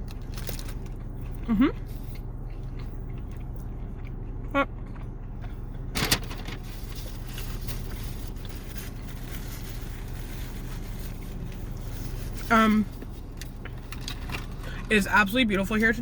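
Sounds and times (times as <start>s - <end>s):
car cabin hum: 0.0s - 16.0s.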